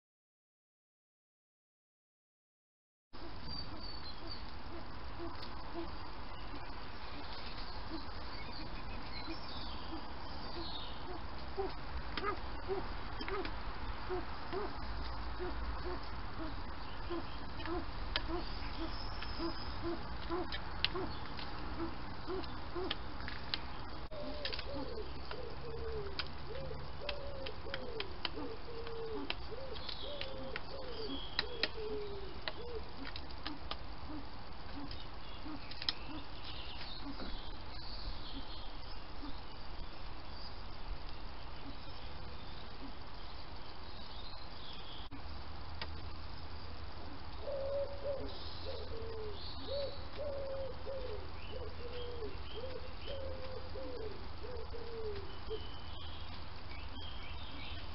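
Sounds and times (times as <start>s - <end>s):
small birds chirping: 3.2s - 57.9s.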